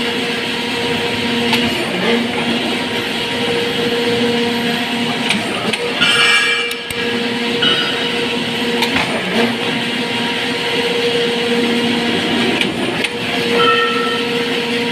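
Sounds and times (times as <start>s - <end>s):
steady machine hum: 0.0s - 14.9s.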